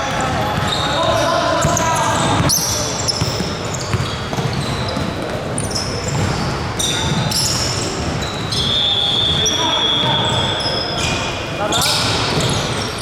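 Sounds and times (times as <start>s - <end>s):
basketball bouncing: 0.0s - 10.5s
players' voices: 0.0s - 13.0s
sneakers squeaking on floor: 0.0s - 13.0s.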